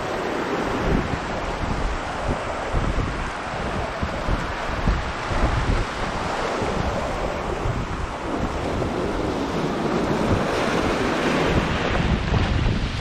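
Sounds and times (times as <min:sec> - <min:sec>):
surf breaking over rocks: 0:00.0 - 0:13.0
wind buffeting microphone: 0:00.0 - 0:13.0.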